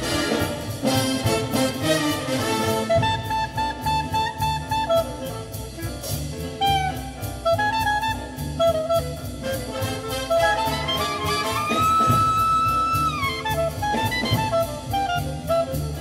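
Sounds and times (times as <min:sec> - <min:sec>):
loud swing jazz through car speakers: 0:00.0 - 0:16.0.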